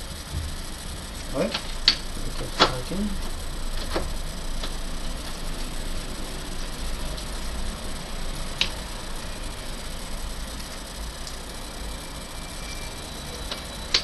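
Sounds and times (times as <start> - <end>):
coffee machine humming: 0.0 - 14.0.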